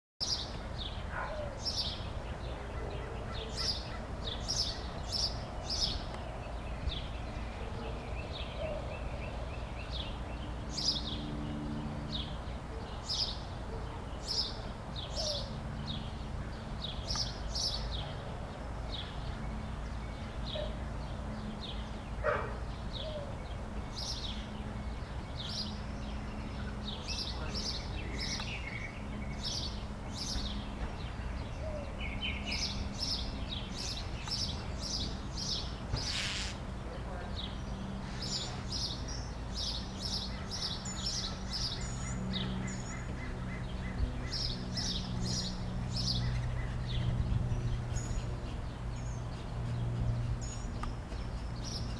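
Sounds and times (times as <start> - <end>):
small birds chirping: 0.2 - 51.9.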